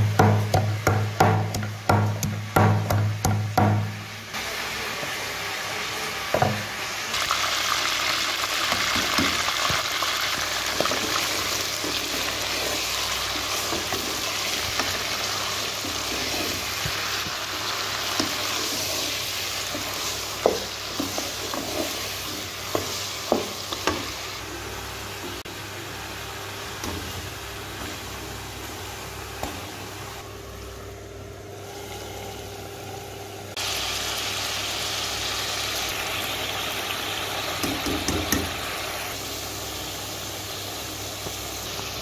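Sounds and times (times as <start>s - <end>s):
chicken sizzling in hot oil: 0.0s - 30.2s, 31.5s - 42.0s.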